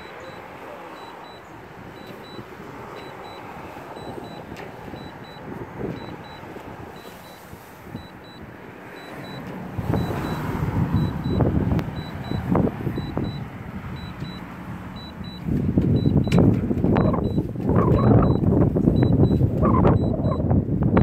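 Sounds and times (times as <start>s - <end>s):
short high beeps: 0.0s - 13.4s, 14.0s - 14.4s, 15.0s - 16.4s, 17.0s - 20.4s
street traffic: 0.0s - 21.0s.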